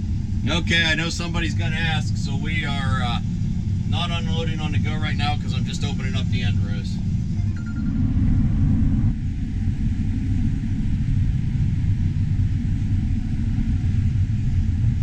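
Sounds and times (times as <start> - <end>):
combine harvester rumbling: 0.0 - 15.0.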